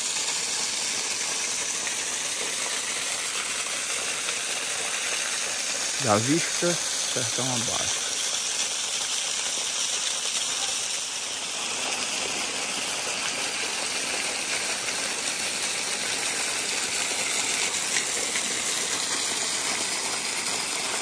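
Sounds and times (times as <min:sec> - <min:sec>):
waterfall rushing and splashing: 0:00.1 - 0:21.0.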